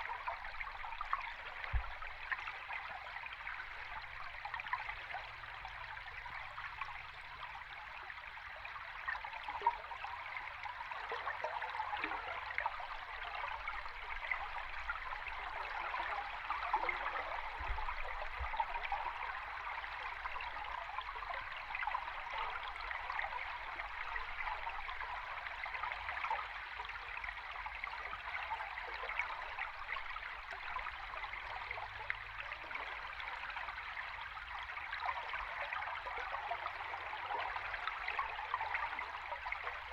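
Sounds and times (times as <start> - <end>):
underwater stream bubbling: 0.0 - 39.9.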